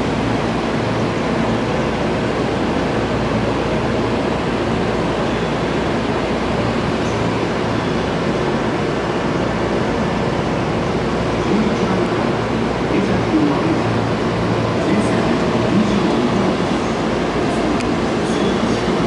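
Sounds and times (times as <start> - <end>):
electric train equipment noise: 0.0 - 19.0.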